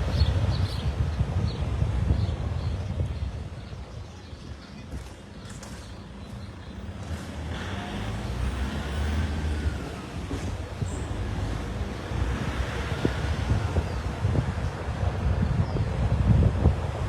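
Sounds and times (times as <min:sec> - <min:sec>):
traffic passing on road: 0:00.0 - 0:17.0.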